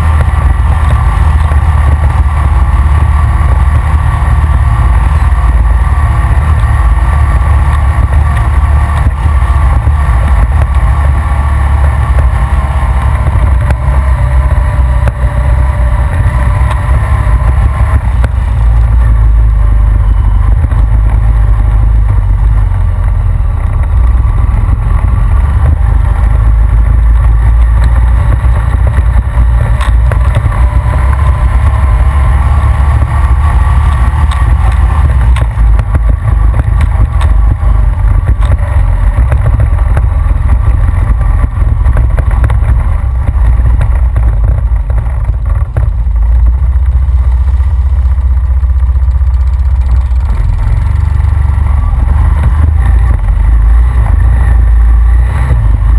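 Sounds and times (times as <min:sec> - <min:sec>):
atv engine running: 0:00.0 - 0:55.9
wind rumble on microphone: 0:00.0 - 0:55.9.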